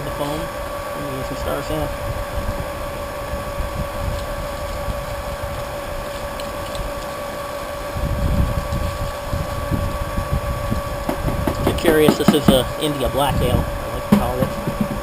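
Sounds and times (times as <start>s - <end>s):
electric pump whining: 0.0s - 15.0s
wind rumbling on microphone: 0.0s - 15.0s.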